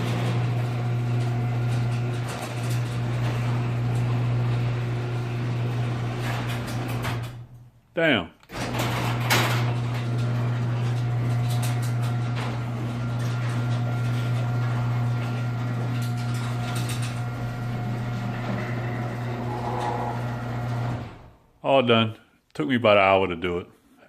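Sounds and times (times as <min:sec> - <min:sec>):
garage door motor humming: 0:00.0 - 0:07.7, 0:08.5 - 0:21.6.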